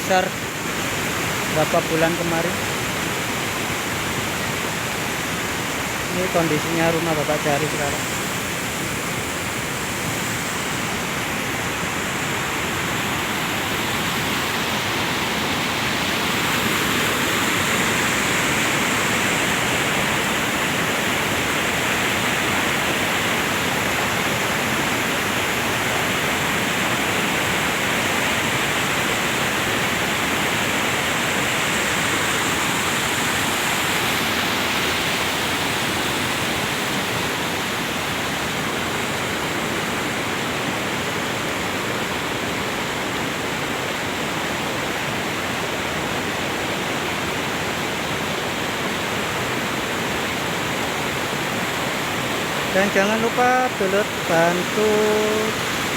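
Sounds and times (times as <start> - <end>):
mudflow rushing down river: 0.0 - 55.9.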